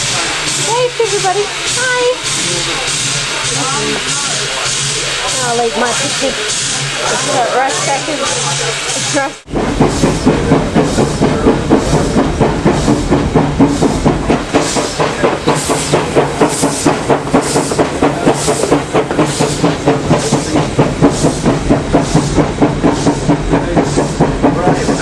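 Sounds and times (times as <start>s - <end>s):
rhythmic hissing beat: 0.0s - 25.0s
train rumble and clatter: 0.0s - 25.0s.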